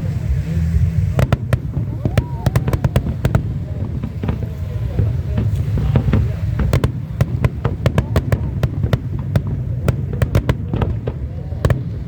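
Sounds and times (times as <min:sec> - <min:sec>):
low rumble: 0:00.0 - 0:12.0
fireworks cracks and bangs: 0:01.1 - 0:12.0.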